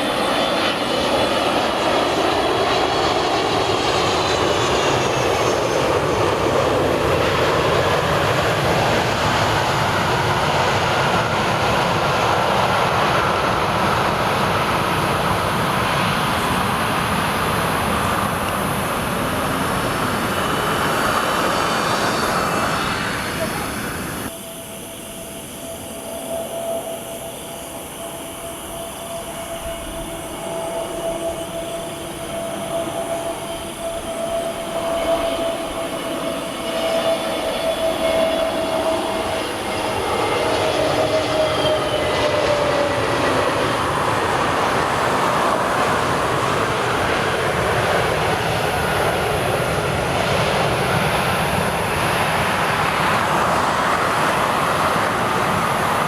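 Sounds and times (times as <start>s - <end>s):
jet engine whine: 0.0s - 56.0s
rushing jet noise: 0.0s - 56.0s.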